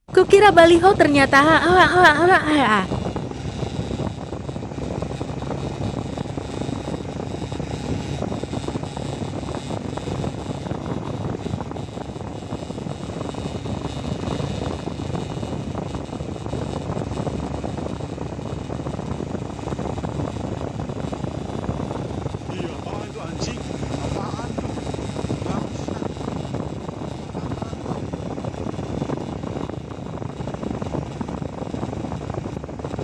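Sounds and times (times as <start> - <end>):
motorcycle engine hum: 0.0 - 33.0
wind and road noise: 0.0 - 33.0.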